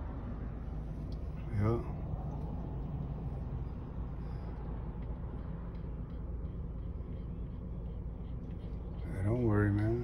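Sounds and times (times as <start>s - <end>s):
car running rumble: 0.0s - 10.0s.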